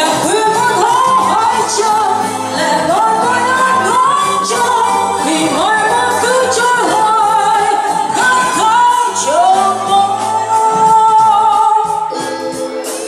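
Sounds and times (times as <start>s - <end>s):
woman singing into microphone: 0.0s - 12.7s
live band with keyboard: 0.0s - 13.0s.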